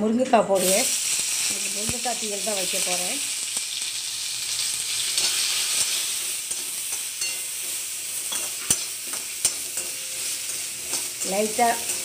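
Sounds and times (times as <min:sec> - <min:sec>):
meat sizzling in hot oil: 0:00.6 - 0:12.0.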